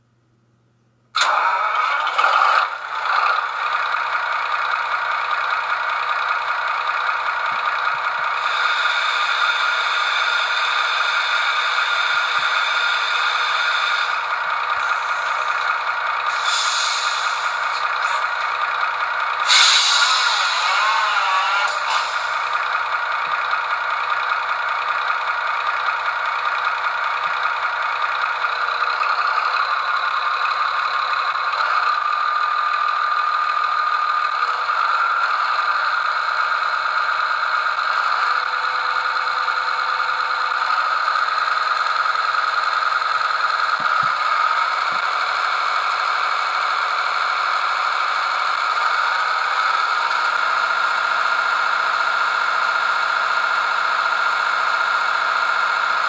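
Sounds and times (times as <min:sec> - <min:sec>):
diesel engine sound from small speaker: 0:01.2 - 0:56.0.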